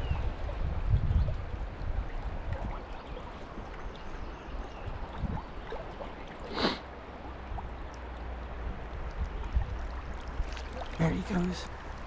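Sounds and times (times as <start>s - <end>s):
river water rushing: 1.4s - 12.0s.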